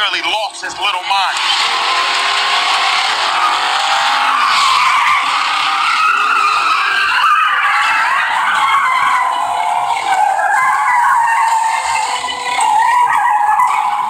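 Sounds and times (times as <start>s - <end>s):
car engines running: 0.0s - 14.0s
car tyres screeching: 0.0s - 14.0s.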